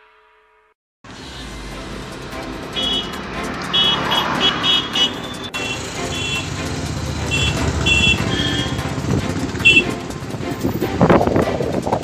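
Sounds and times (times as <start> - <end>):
vehicle engine and road rumble: 1.1 - 12.0.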